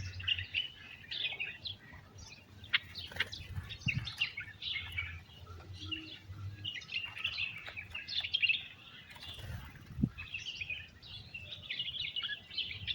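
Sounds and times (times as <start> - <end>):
wild birds chirping: 0.0 - 12.9.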